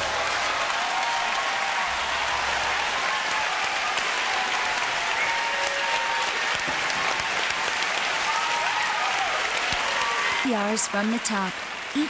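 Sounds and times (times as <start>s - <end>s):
faint cheers: 0.0s - 11.2s
audience applauding: 0.0s - 12.0s.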